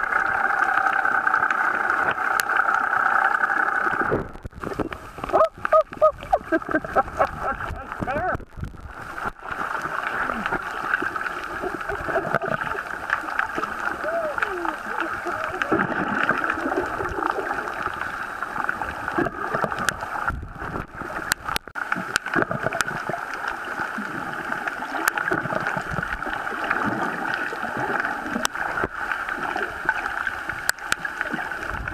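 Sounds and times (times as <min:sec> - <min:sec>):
muffled underwater gurgling: 0:00.0 - 0:31.9.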